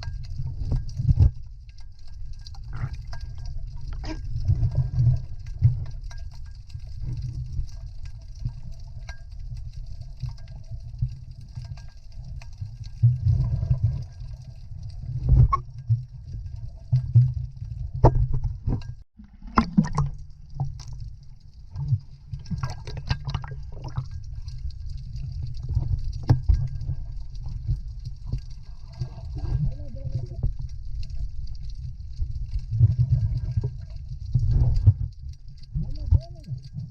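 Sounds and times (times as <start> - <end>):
muffled water sloshing and splashing: 0.0 - 36.9.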